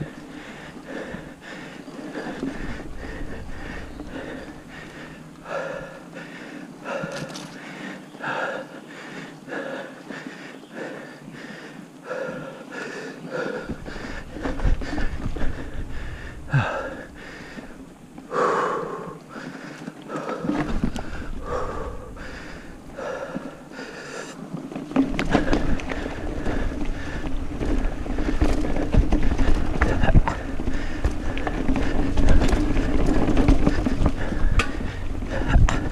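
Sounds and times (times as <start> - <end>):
person breathing hard: 0.0 - 24.5, 25.3 - 35.9
bike rattling over dirt trail: 0.0 - 35.9.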